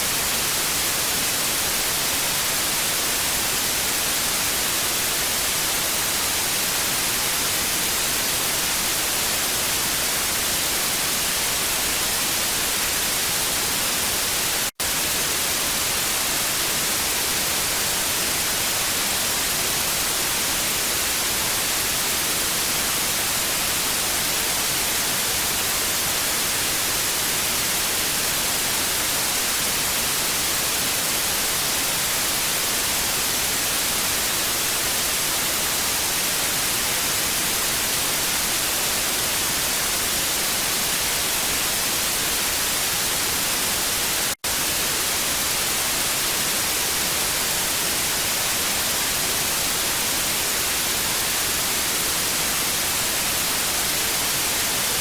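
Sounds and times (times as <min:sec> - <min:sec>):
television static hiss: 0:00.0 - 0:55.0.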